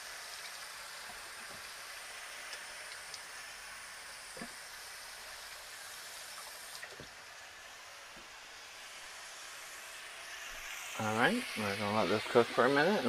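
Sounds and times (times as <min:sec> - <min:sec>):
pots hissing on stovetop: 0:00.0 - 0:13.0.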